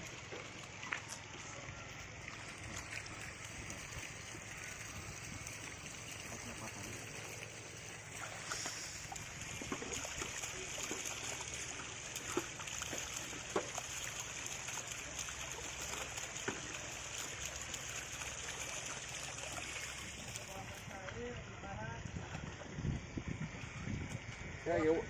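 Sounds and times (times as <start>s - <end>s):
muddy water splashing: 0.0s - 24.3s.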